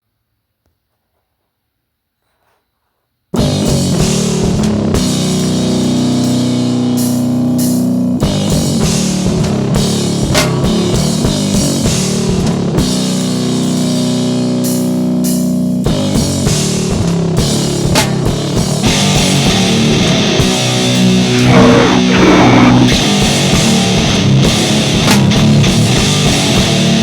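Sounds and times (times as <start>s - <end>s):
rock music with drums and guitars: 3.4s - 27.0s.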